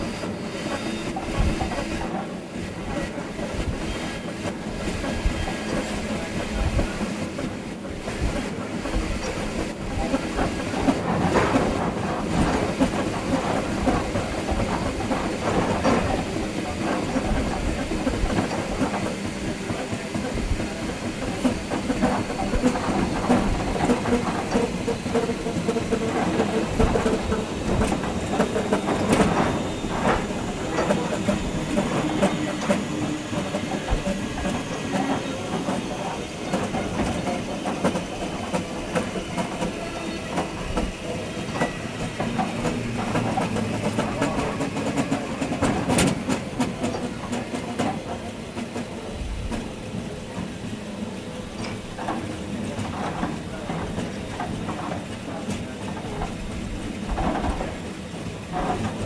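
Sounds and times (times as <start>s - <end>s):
train rumble and hiss: 0.0s - 59.0s
wheels clicking over rail joints: 0.8s - 59.0s.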